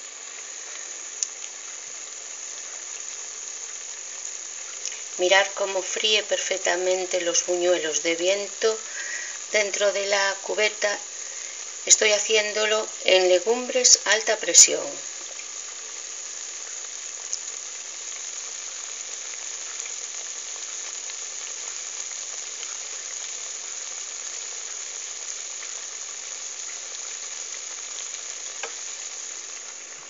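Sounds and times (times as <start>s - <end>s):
fritters sizzling in hot oil: 0.0s - 30.0s.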